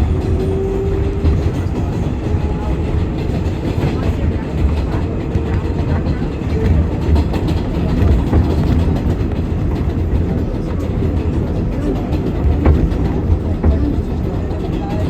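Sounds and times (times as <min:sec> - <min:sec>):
subway train rumbling: 0:00.0 - 0:15.0
wheels clicking over rail joints: 0:00.0 - 0:15.0.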